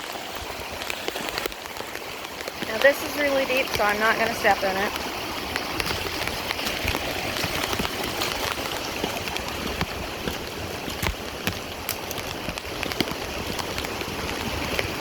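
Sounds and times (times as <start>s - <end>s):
floodwater rushing: 0.0s - 15.0s
water splashes and drips: 0.0s - 15.0s.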